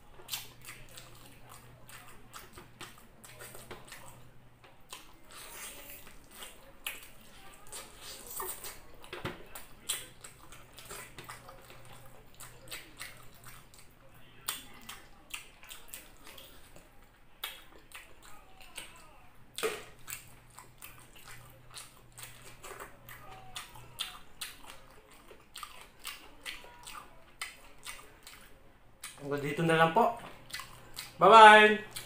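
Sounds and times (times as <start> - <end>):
wet eating smacks and chewing: 0.0 - 31.2.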